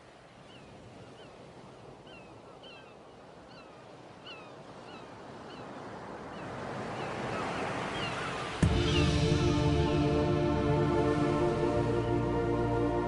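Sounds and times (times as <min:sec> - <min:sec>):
wind in pine trees: 0:00.0 - 0:13.0.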